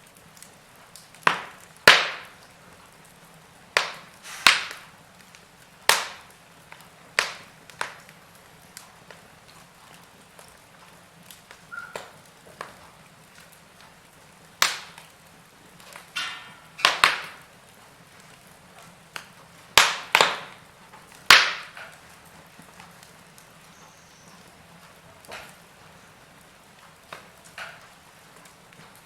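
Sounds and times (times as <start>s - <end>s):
burning logs popping: 0.0s - 29.0s
faint steady hiss: 0.0s - 29.0s
wood fire crackling: 0.0s - 29.0s.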